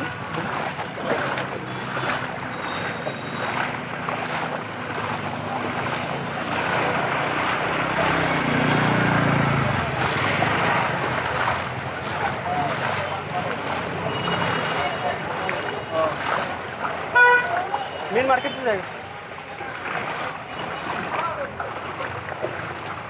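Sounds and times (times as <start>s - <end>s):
floodwater sloshing and splashing: 0.0s - 23.0s.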